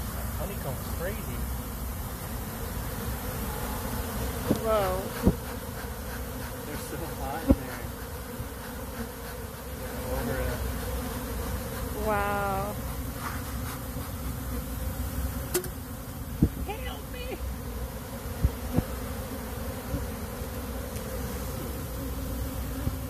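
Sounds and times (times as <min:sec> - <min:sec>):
honey bees buzzing: 0:00.0 - 0:23.0.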